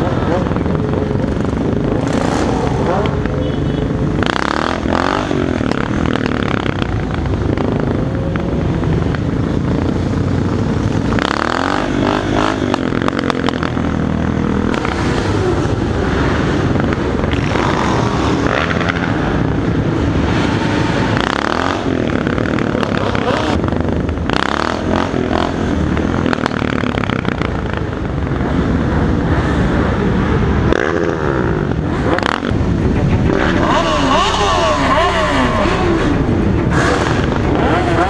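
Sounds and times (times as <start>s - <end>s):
motorcycle engines revving: 0.0s - 38.0s.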